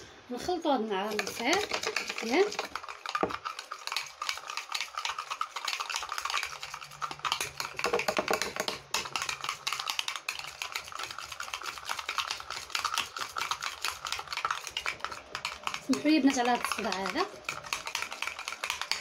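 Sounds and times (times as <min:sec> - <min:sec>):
spoon clicking and scraping bowl: 0:01.0 - 0:19.0.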